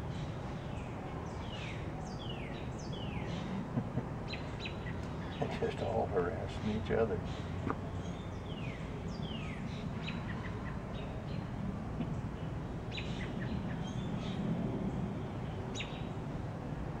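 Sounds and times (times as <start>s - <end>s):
small birds chirping: 0.0s - 16.3s.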